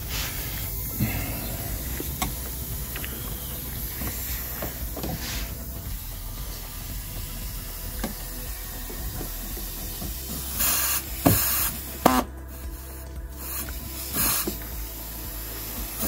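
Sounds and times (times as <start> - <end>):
air saw hissing rush: 0.0 - 16.0.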